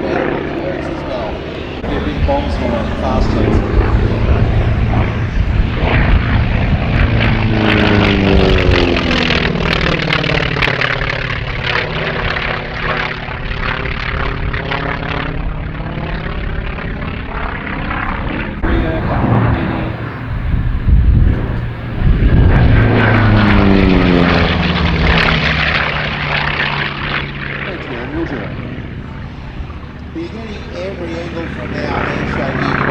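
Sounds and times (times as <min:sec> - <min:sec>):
propeller aircraft passing low: 0:00.0 - 0:32.9.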